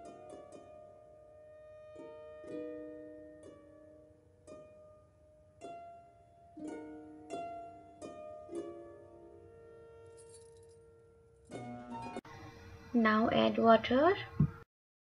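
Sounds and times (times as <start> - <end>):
slow plucked-string music: 0.0 - 13.0.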